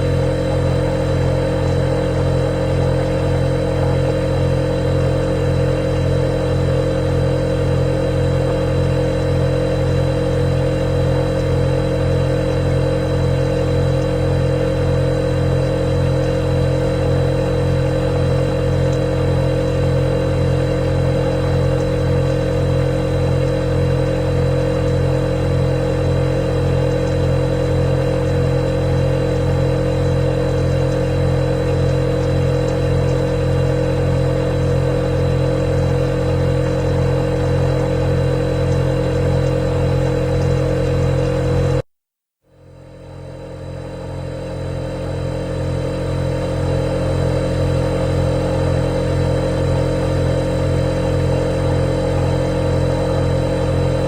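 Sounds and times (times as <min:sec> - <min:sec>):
refrigerator humming: 0:00.0 - 0:41.9, 0:42.5 - 0:54.0.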